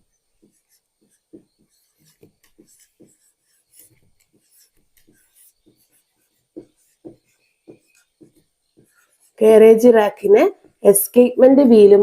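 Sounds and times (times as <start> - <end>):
pen scratching on paper: 0.0 - 10.8.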